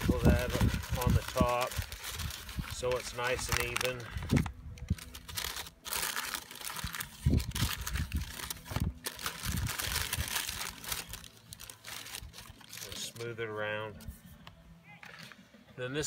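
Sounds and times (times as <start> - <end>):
paper and plastic crinkling: 0.0 - 14.2.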